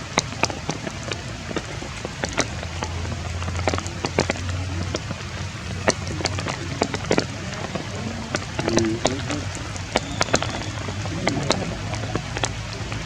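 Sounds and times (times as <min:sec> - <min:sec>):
rain drops striking a surface: 0:00.0 - 0:13.0.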